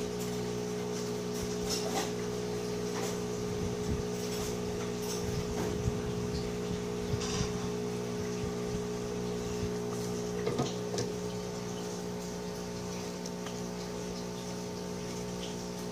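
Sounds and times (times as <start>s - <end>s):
hot-air station hum and airflow: 0.0s - 15.9s.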